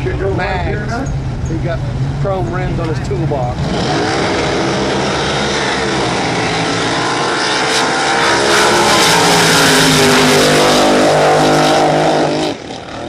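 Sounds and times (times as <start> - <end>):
racing boat engines: 0.0 - 13.0.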